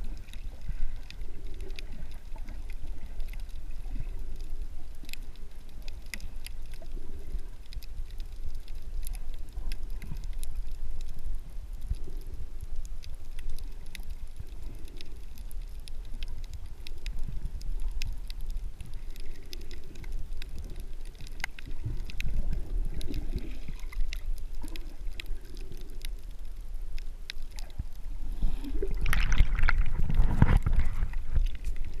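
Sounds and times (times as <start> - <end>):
faint clicks: 0.0 - 32.0
underwater rumble of moving water: 0.0 - 32.0
water splashing and bubbling: 0.0 - 32.0.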